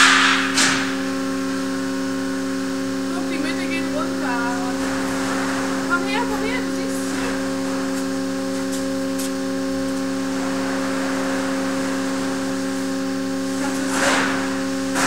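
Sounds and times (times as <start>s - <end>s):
hydraulic machine hum: 0.0s - 15.0s.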